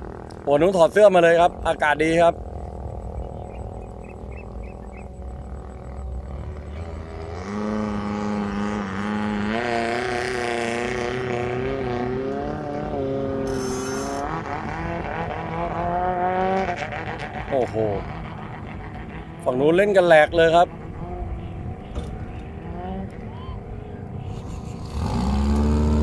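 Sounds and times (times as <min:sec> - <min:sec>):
boat engine rumbling: 0:00.0 - 0:26.0.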